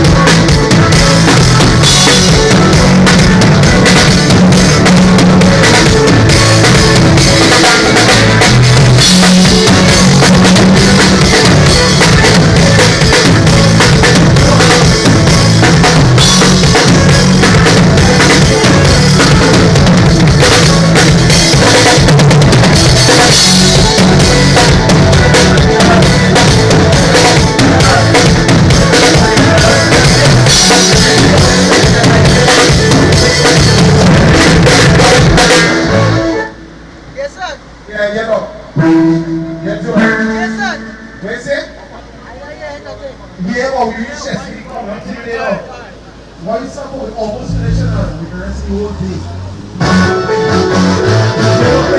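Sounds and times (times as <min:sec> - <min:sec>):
heavy bass line: 0:00.0 - 0:37.9, 0:38.5 - 0:42.2, 0:46.2 - 0:51.9
band music with drum kit: 0:00.0 - 0:42.6, 0:47.3 - 0:51.9.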